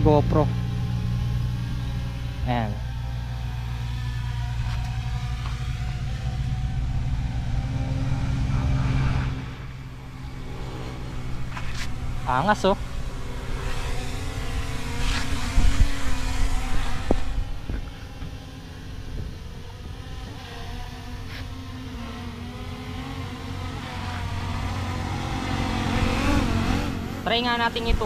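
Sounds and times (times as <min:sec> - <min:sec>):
drone propellers humming: 0:00.0 - 0:28.0.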